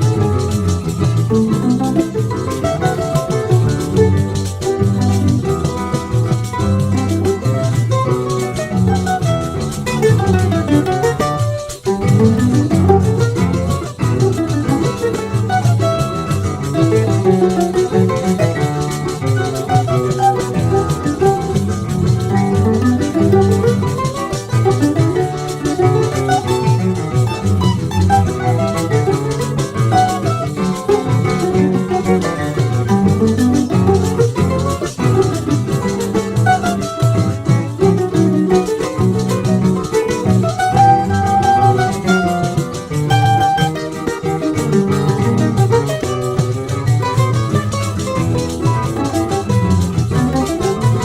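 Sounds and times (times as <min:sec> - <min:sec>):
light percussion: 0:00.0 - 0:51.0
mandolin melody: 0:00.0 - 0:51.0
plucked string accompaniment: 0:00.0 - 0:51.0.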